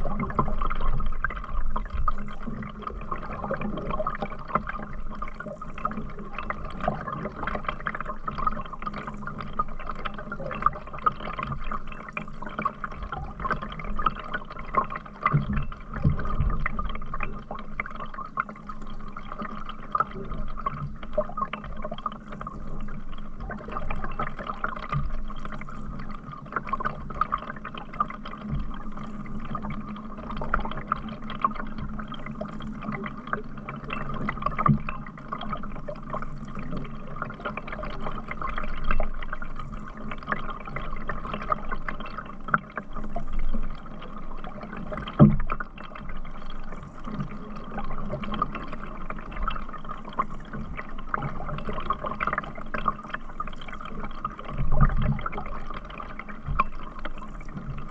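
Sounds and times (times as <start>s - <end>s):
water dripping and splashing: 0.0s - 57.9s.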